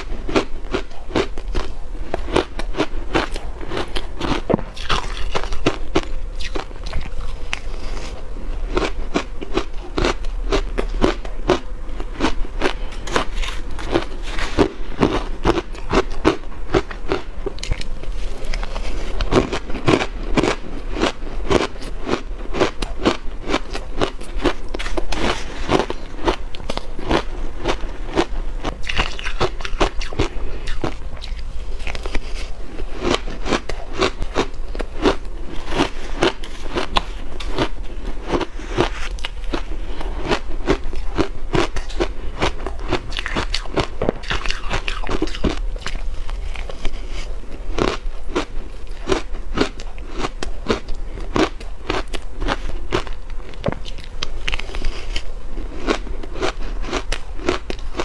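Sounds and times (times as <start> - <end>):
chewing crunchy ice: 0.0 - 58.0.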